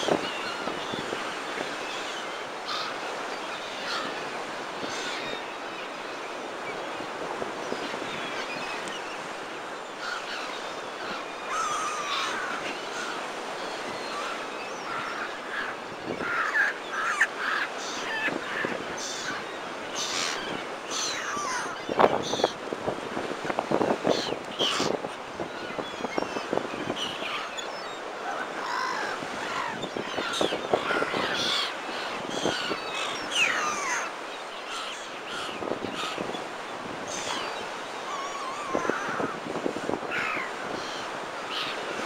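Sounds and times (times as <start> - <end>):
gulls calling: 0.0 - 42.0.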